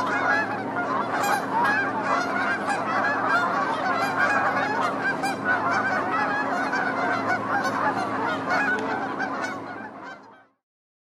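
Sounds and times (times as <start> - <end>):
geese honking: 0.0 - 10.6.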